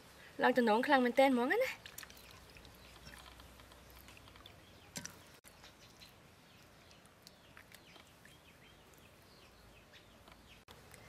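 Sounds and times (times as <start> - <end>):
faint birds chirping: 1.8 - 11.0.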